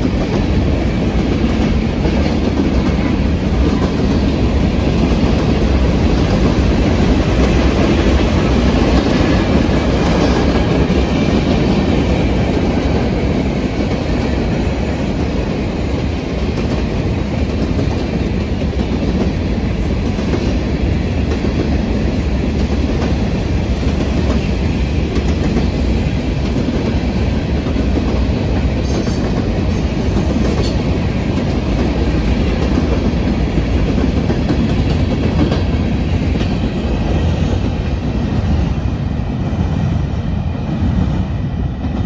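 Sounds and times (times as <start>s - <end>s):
freight train rolling past: 0.0s - 42.0s.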